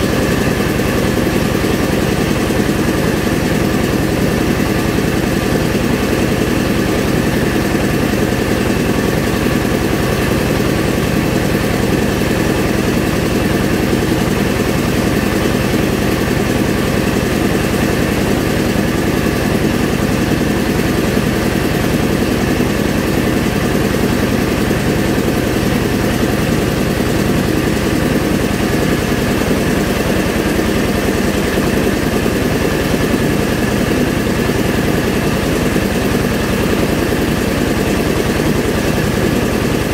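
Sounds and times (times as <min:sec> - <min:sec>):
rice milling machine running: 0:00.0 - 0:39.9.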